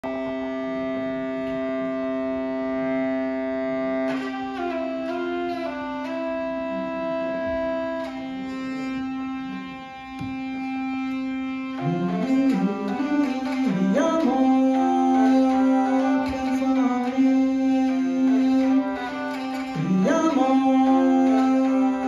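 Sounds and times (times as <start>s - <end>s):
hurdy gurdy playing: 0.0s - 22.0s.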